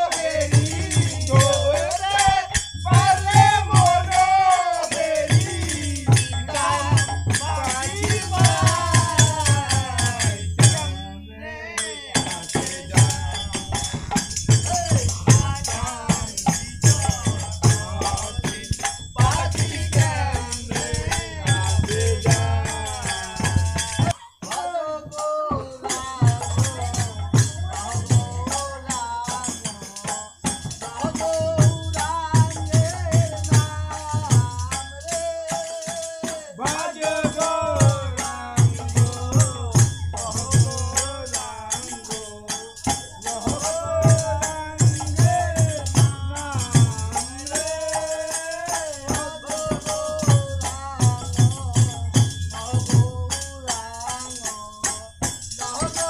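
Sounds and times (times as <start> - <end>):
drum: 0.0 - 11.0, 12.2 - 56.0
hand cymbals jingling: 0.0 - 56.0
men singing together: 0.0 - 56.0
tambourine: 0.0 - 56.0.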